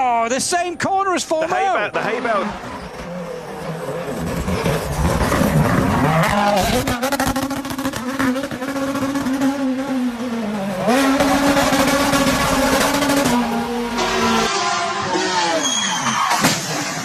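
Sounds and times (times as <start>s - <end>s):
rally car engine revving: 2.0s - 17.0s.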